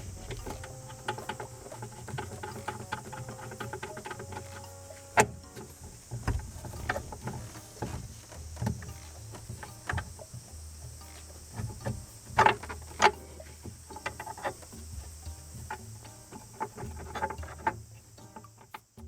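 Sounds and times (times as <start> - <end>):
low steady hum: 0.0 - 19.0
tools and metal parts clanking: 0.0 - 19.0.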